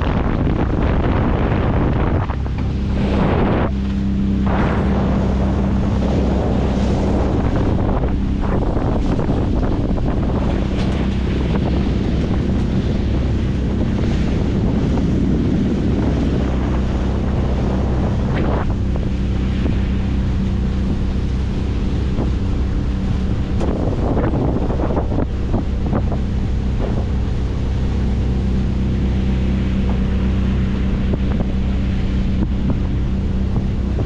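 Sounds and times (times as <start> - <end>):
outboard motor running: 0.0 - 34.0
water rushing past: 0.0 - 34.0
wind noise on microphone: 0.0 - 34.0.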